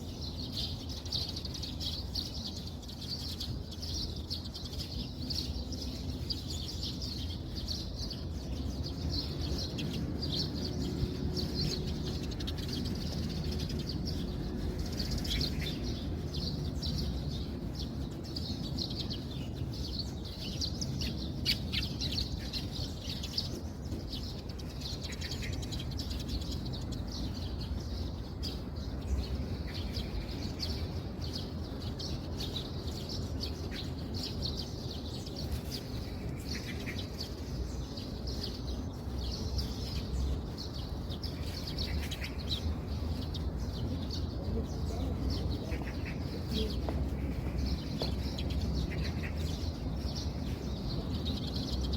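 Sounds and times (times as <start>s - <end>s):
small birds chirping: 0.0s - 51.9s
steady low rumble: 0.0s - 51.9s.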